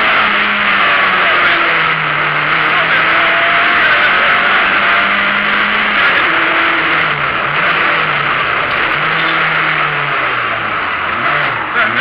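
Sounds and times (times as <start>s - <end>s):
car engine driven hard: 0.0s - 12.0s.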